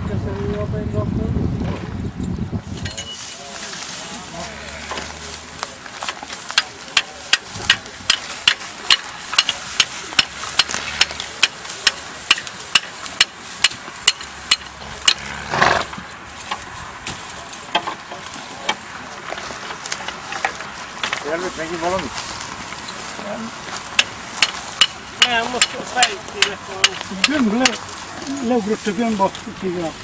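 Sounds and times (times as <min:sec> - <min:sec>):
rhythmic metallic mower clicking: 0:02.8 - 0:30.0.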